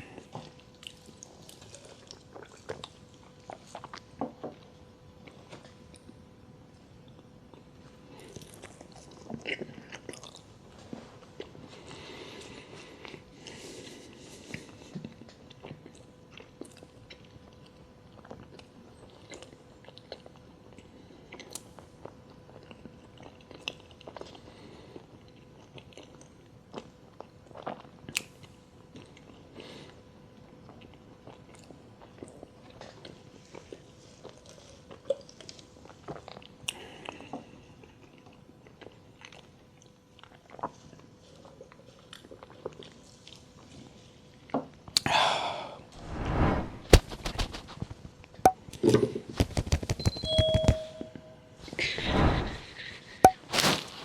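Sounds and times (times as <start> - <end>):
close chewing and crunching: 0.0 - 6.2, 7.0 - 45.1.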